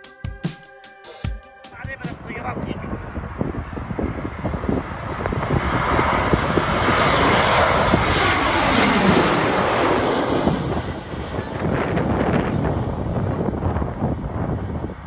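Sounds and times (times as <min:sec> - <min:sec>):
jet airliner passing overhead: 0:01.8 - 0:15.0.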